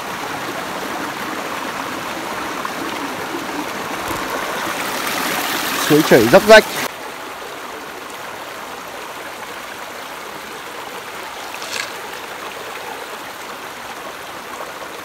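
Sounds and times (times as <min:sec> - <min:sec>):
stream babbling over rocks: 0:00.0 - 0:15.0.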